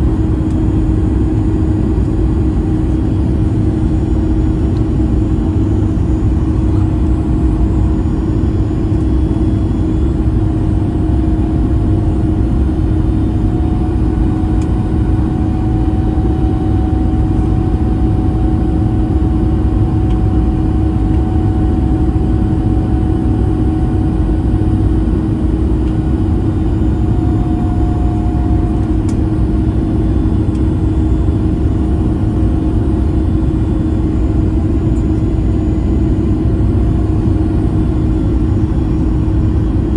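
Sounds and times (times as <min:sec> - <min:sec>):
constant hum: 0:00.0 - 0:39.9
jet engine and airflow rush: 0:00.0 - 0:39.9.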